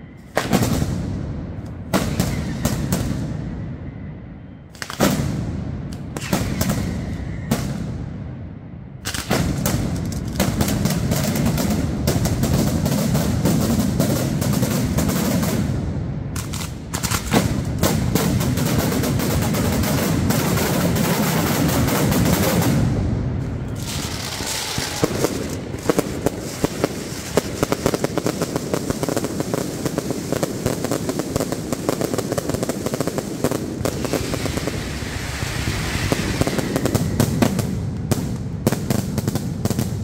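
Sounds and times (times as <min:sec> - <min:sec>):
firecrackers bursting: 0:00.2 - 0:03.7, 0:04.7 - 0:08.4, 0:09.0 - 0:40.0.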